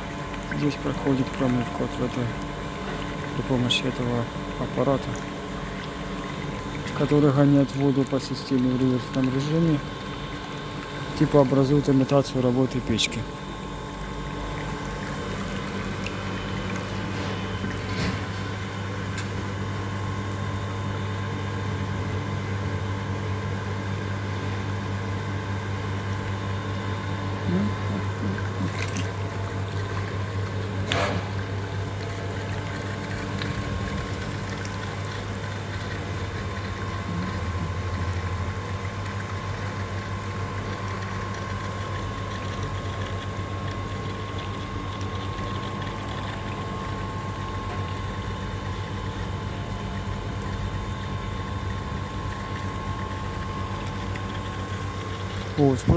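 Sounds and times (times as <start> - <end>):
pump humming: 0.0 - 55.9.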